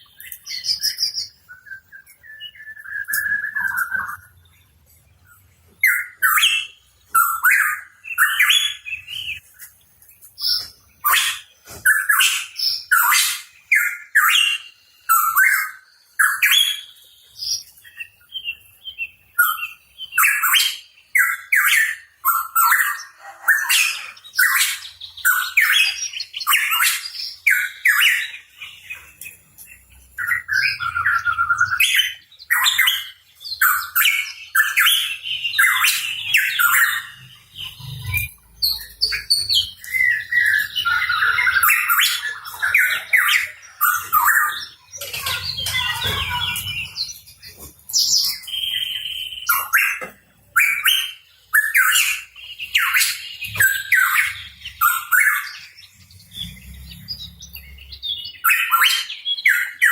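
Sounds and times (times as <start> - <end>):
bird chirping and whistling: 0.0 - 4.5, 5.8 - 9.5, 10.4 - 59.9.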